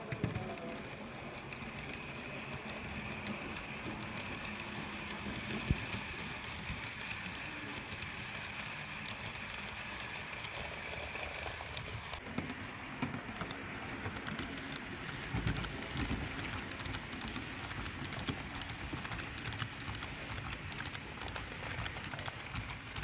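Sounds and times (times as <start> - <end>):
model train wheels clicking: 0.0 - 23.0.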